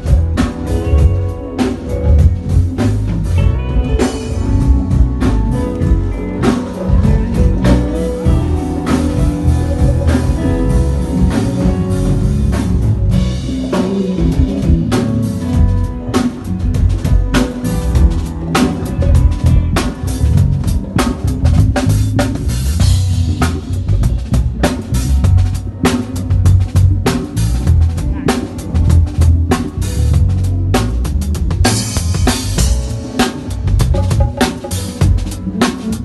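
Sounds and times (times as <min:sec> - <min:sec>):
guitar: 0:00.0 - 0:36.0
live band instrumental: 0:00.0 - 0:36.0
drum hits: 0:01.9 - 0:36.0.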